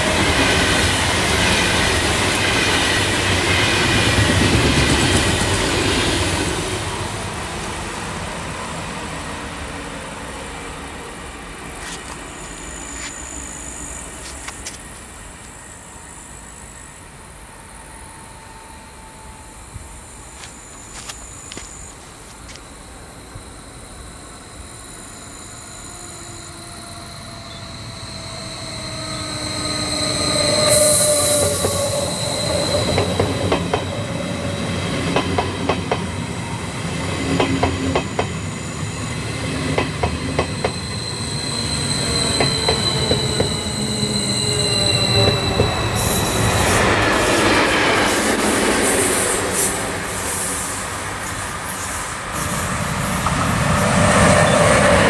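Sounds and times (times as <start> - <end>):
train wheel squeal: 0.0 - 7.2, 9.2 - 55.0
passing train: 0.0 - 55.0.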